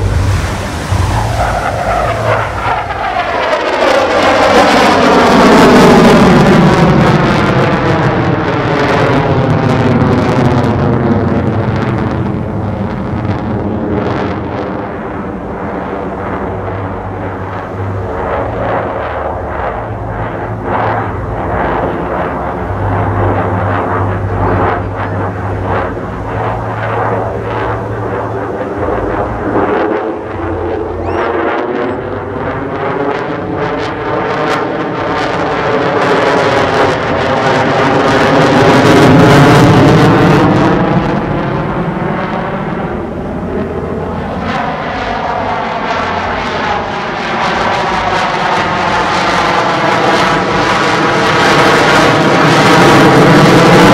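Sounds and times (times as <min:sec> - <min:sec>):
fighter jet flying past: 0:00.0 - 0:53.9.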